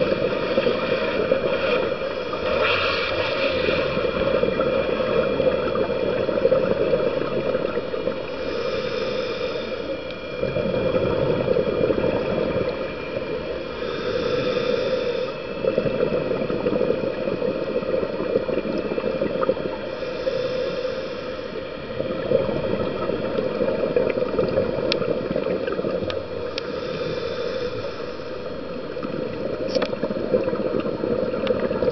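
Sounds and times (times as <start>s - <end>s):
exhaled bubbles: 0.0s - 9.3s, 10.2s - 20.8s, 21.8s - 27.2s, 28.7s - 31.9s
underwater noise: 0.0s - 31.9s.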